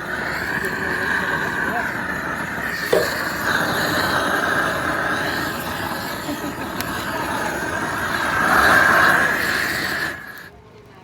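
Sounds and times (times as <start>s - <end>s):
garlic and onions sizzling in oil: 0.0s - 10.5s.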